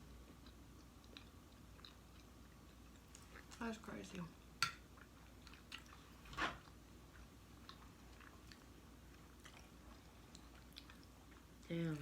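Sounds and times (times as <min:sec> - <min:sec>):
chewing and wet mouth sounds: 0:00.0 - 0:12.0.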